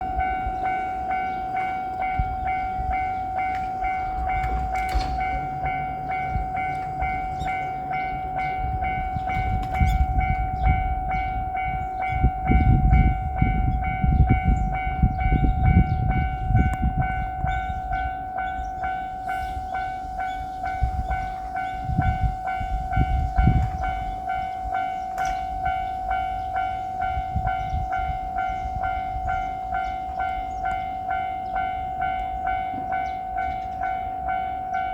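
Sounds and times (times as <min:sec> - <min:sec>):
level crossing warning bell: 0:00.0 - 0:34.9
train passing with wheel clatter: 0:00.0 - 0:34.9.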